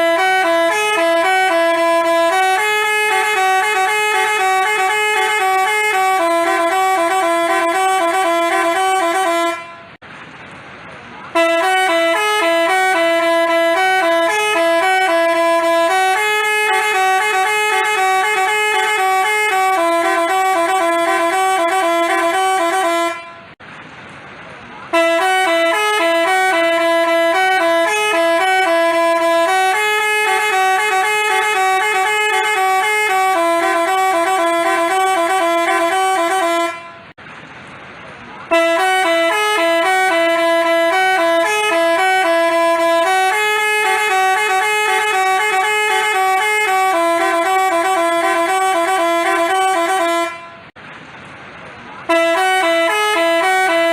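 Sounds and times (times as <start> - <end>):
multi-tone bus horn melody: 0.0 - 10.0, 11.2 - 23.6, 24.8 - 37.2, 38.4 - 50.8, 52.0 - 53.9.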